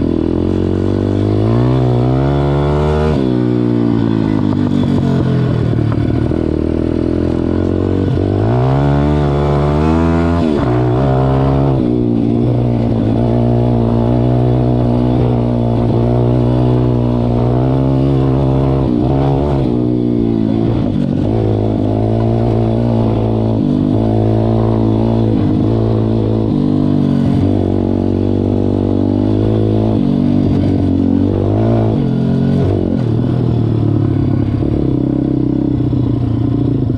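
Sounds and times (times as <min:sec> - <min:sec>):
motorbike engine revving: 0:00.0 - 0:36.9.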